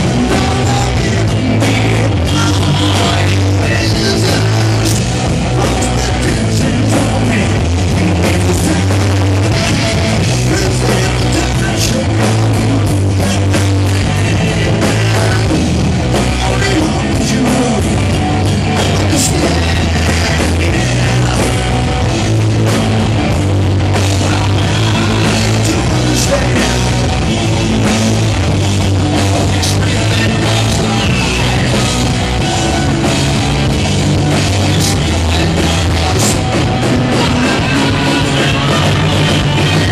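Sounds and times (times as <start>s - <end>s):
person singing: 0.0s - 18.1s, 18.7s - 23.0s, 24.0s - 27.3s, 29.4s - 33.6s, 34.2s - 39.9s
live hard rock band: 0.0s - 39.9s.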